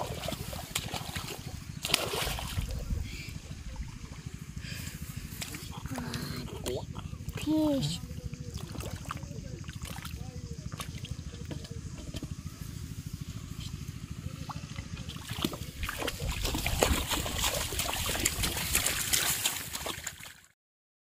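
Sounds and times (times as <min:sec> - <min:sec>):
steady low rumble: 0:00.0 - 0:20.0
muddy water splashing: 0:00.0 - 0:20.5.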